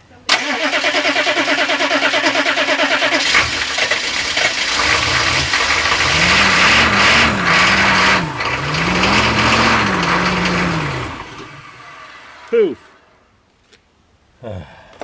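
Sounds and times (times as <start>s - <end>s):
diesel engine cranking: 0.3s - 13.2s
diesel truck engine revving: 0.4s - 12.5s.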